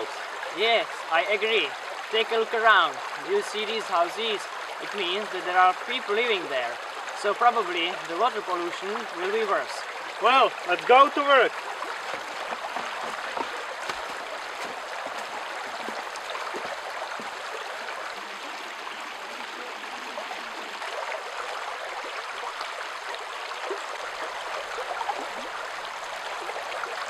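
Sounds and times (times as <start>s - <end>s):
brook flowing over stones: 0.0s - 27.0s.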